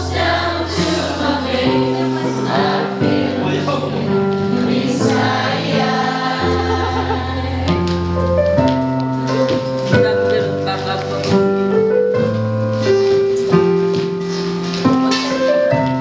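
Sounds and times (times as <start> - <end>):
electronic keyboard chords: 0.0 - 16.0.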